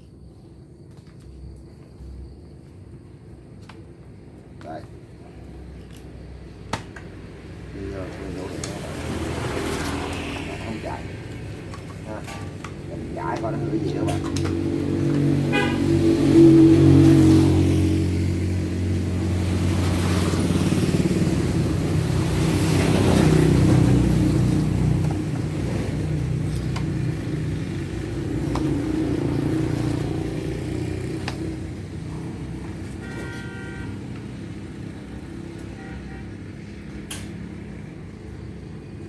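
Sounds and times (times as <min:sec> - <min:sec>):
road traffic rumbling: 0:03.2 - 0:39.0.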